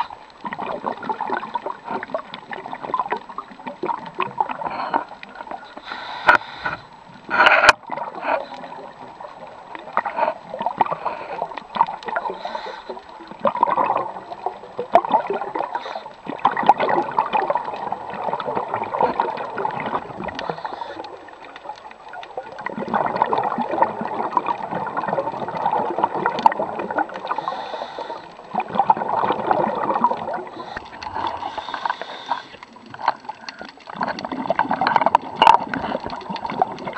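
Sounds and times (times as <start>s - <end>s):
underwater exhaled bubbles gurgling: 0.0s - 36.9s.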